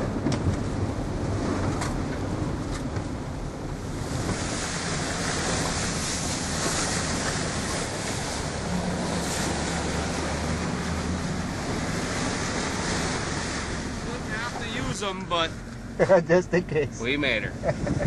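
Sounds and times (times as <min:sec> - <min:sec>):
spray rushing and wind: 0:00.0 - 0:15.9
truck engine hum: 0:00.0 - 0:18.0.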